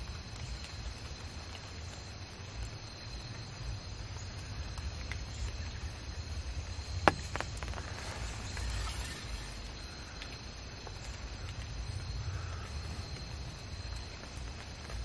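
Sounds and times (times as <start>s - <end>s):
faint high insect-like tone: 0.0s - 15.0s.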